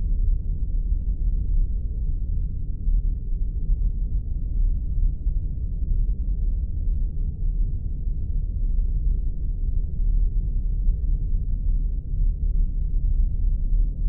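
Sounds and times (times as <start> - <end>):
deep engine-room drone: 0.0 - 14.0.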